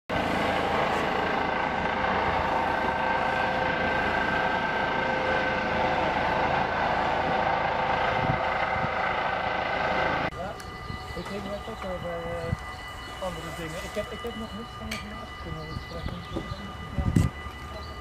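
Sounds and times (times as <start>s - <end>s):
steady engine whine: 0.1s - 18.0s
vehicle engine droning: 0.1s - 18.0s.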